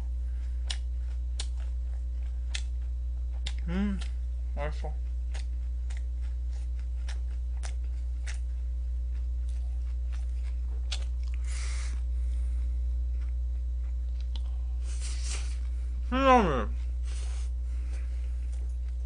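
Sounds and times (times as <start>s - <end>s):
person chewing food: 0.0s - 16.1s, 16.7s - 19.0s
low electrical hum: 0.0s - 19.0s.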